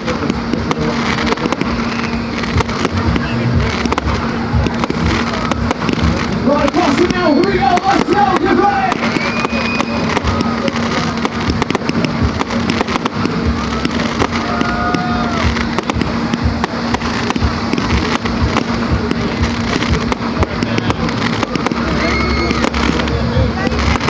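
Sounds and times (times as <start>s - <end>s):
fireworks crackling and bangs: 0.0s - 24.0s
low hum: 0.0s - 24.0s.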